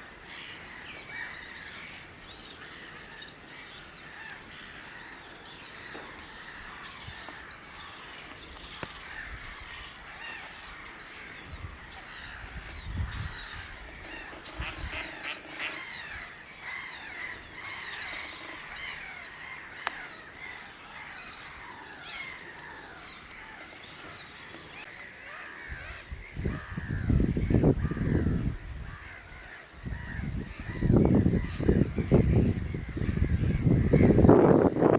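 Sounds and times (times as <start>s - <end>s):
wild birds calling: 0.0s - 34.9s.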